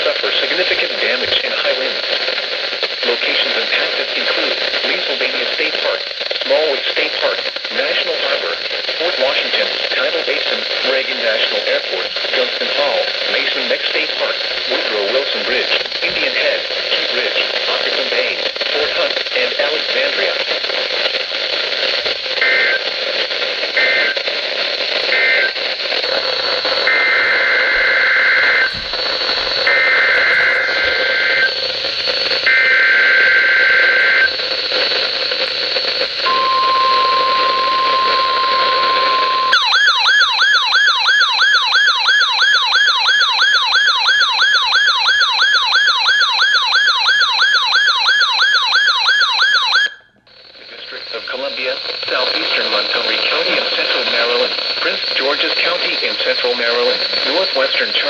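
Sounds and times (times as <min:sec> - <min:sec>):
radio static: 0:00.0 - 0:58.0.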